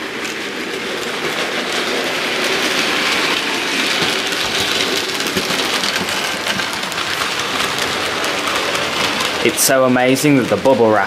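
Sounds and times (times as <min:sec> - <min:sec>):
model train wheels rattling: 0:00.0 - 0:11.0.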